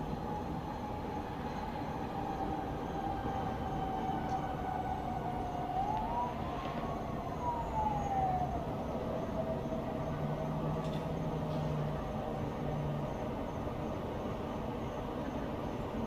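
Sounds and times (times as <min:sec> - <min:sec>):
distant siren wailing: 0:00.1 - 0:13.2.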